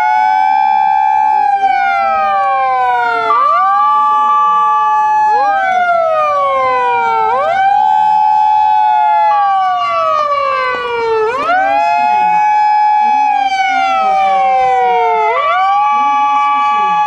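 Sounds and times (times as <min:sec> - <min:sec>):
fire engine sirens wailing: 0:00.0 - 0:17.0
steady single siren tone: 0:00.0 - 0:17.0.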